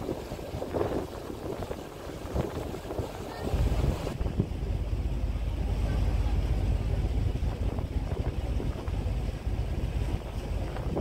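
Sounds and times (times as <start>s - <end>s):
boat engine: 0.0s - 11.0s
water: 0.0s - 11.0s
wind buffeting microphone: 0.0s - 11.0s.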